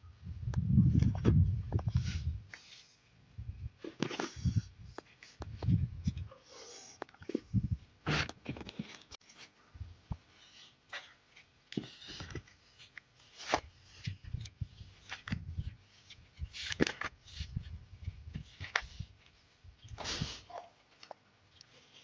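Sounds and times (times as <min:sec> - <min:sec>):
rustling and scraping: 0:00.8 - 0:22.0.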